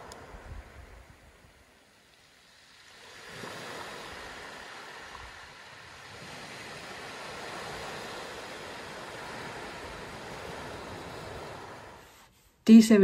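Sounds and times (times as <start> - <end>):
sea waves washing on shore: 0.0 - 12.3.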